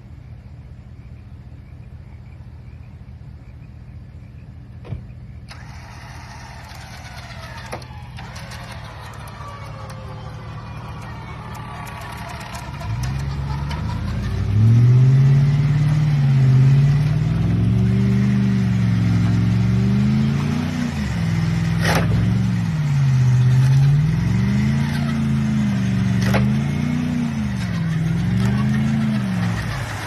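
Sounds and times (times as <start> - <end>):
pickup truck engine revving: 5.5 - 30.0.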